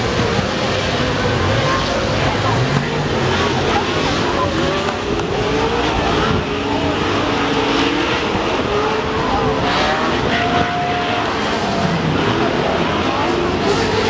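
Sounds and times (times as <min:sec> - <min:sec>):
race truck engines revving: 0:00.0 - 0:14.0.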